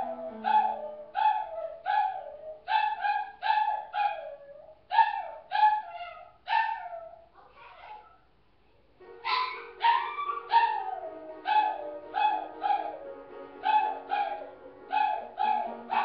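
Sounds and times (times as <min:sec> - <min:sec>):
dog yowling: 0:00.0 - 0:07.2, 0:09.2 - 0:13.0, 0:13.6 - 0:16.0.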